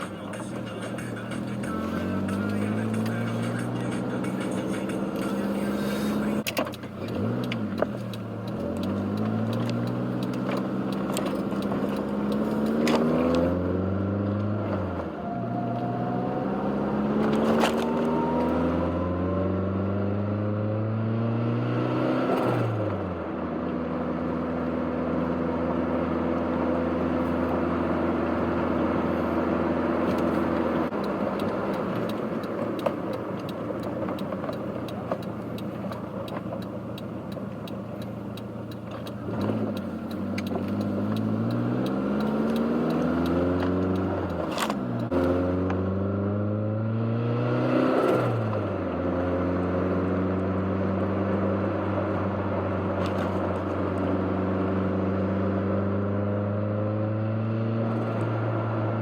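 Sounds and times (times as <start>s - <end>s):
turbocharged car engine accelerating: 0.0s - 59.0s.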